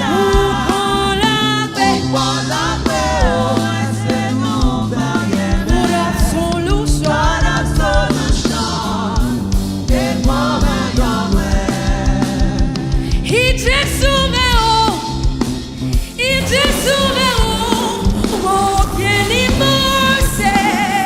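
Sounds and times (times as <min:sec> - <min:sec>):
gospel singing over band: 0:00.0 - 0:21.0.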